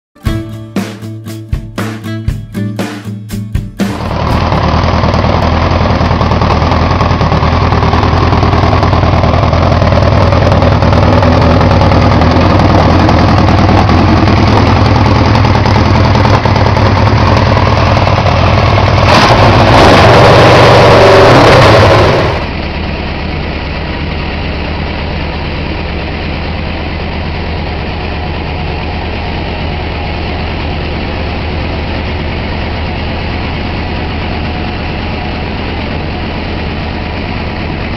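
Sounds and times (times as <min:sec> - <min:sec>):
motorcycle engine idling: 0:03.9 - 0:19.3, 0:22.4 - 0:37.9.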